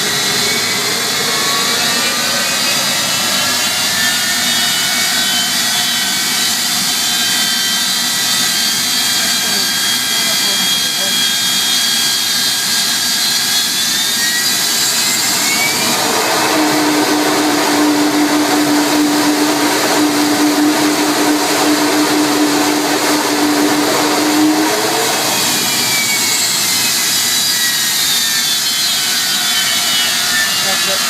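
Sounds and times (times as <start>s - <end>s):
high engine whine: 0.0s - 31.0s
jet engine howl: 0.0s - 31.0s
jet engine roar: 0.0s - 31.0s.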